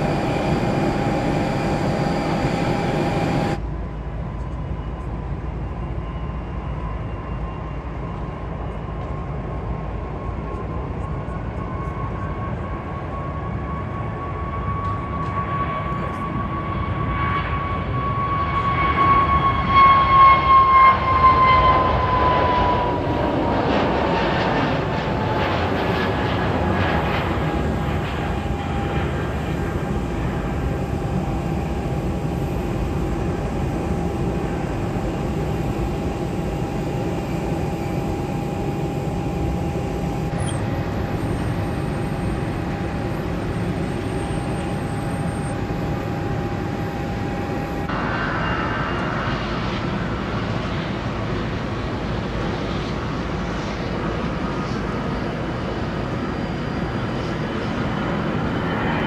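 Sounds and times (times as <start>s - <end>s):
continuous rumble: 0.0s - 59.0s
jet engine whine: 0.0s - 59.0s.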